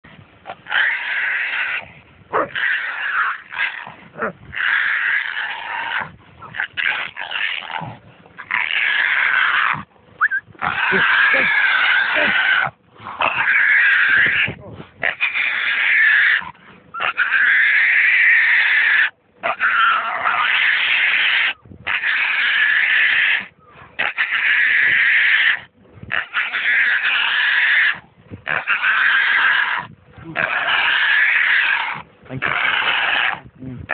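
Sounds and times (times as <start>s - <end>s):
pig crying: 0.5s - 33.9s
pig squealing: 0.5s - 33.9s.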